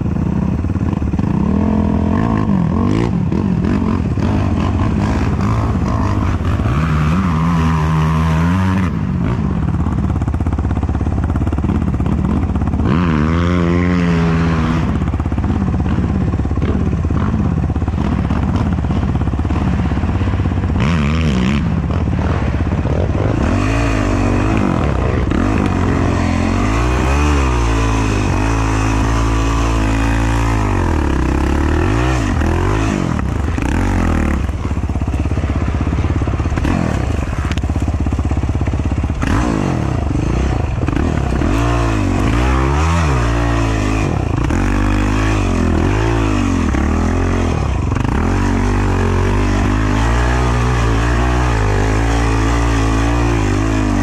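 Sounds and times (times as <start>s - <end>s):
quad bike engine revving: 0.0s - 54.0s.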